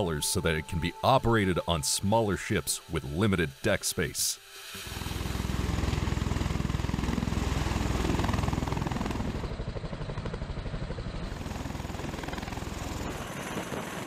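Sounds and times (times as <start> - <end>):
tiltrotor aircraft drone and blade beat: 0.0 - 14.0.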